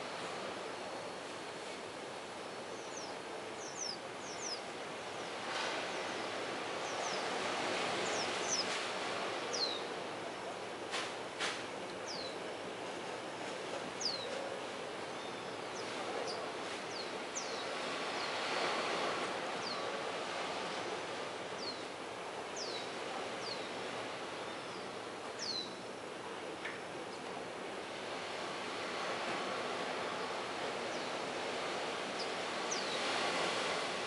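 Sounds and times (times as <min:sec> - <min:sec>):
sea surf: 0:00.0 - 0:34.0
wind: 0:00.0 - 0:34.0.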